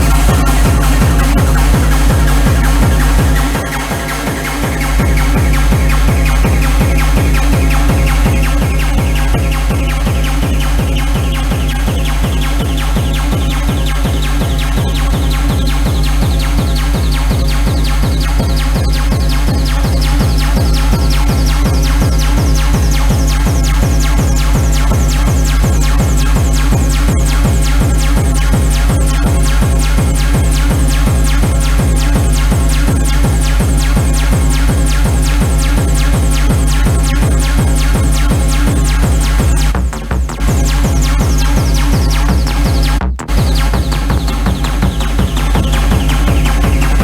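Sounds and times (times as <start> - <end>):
high synth sweep: 0.0 - 47.0
loud techno music: 0.0 - 47.0
pounding kick drum: 0.0 - 47.0.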